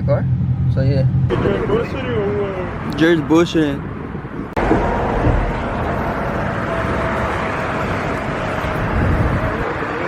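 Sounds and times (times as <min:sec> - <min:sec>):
vehicle traffic rushing: 0:00.0 - 0:10.0.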